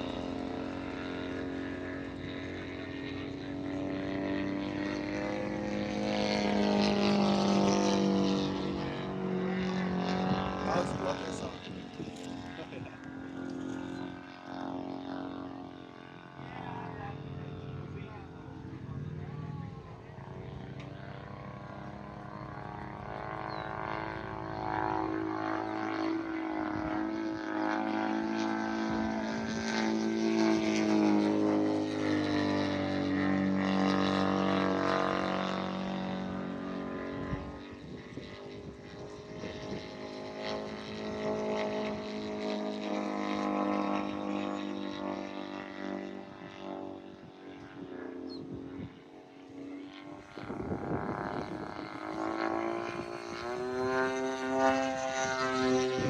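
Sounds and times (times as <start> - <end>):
model airplane engine droning: 0.0 - 56.0.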